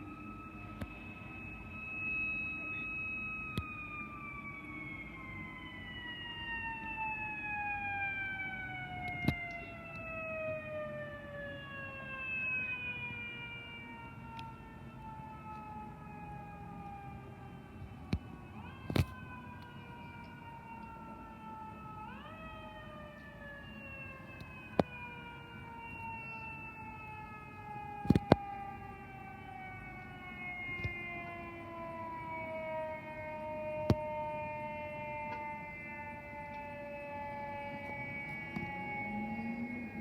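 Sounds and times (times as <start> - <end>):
mechanical siren wailing: 0.0 - 40.0.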